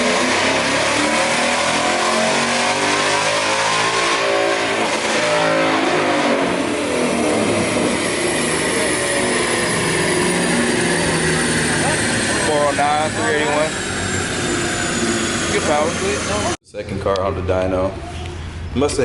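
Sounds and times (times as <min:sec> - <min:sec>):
car engine running hard: 0:00.0 - 0:16.6.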